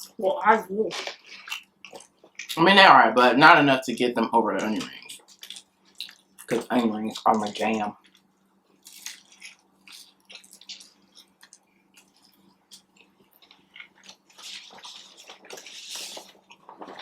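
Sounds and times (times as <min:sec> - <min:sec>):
person chewing food: 0:00.9 - 0:02.6, 0:04.6 - 0:17.0.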